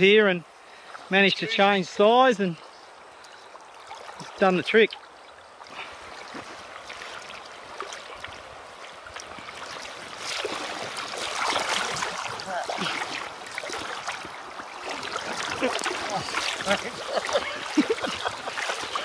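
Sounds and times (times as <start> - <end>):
river water gurgling over stones: 0.4 - 19.0.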